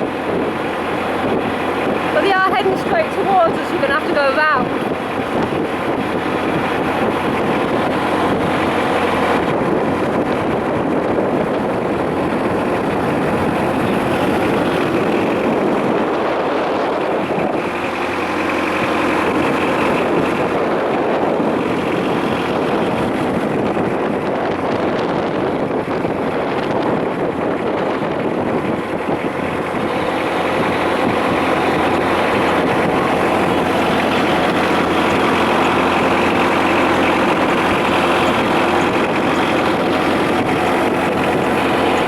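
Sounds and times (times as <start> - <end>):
boat engine running: 0.0 - 42.0
water noise: 0.0 - 42.0
wind: 0.0 - 42.0.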